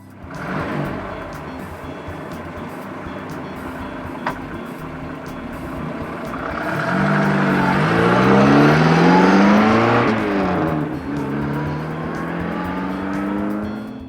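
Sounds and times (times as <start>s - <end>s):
engine revving up: 0.0s - 14.0s.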